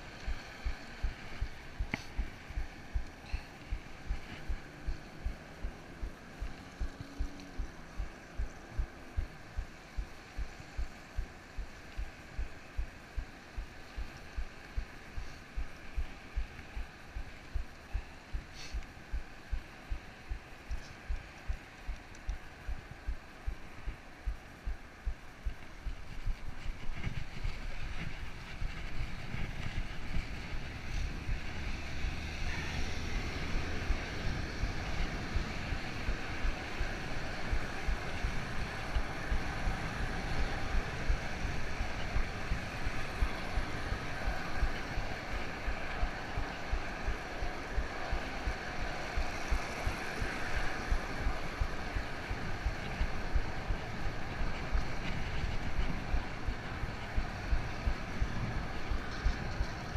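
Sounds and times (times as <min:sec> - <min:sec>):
road noise: 0:00.0 - 0:59.9
wind buffeting microphone: 0:00.0 - 0:59.9.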